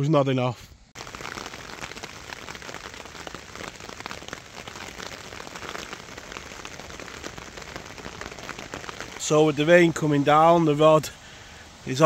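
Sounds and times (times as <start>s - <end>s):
steady rain falling: 0.9s - 12.0s.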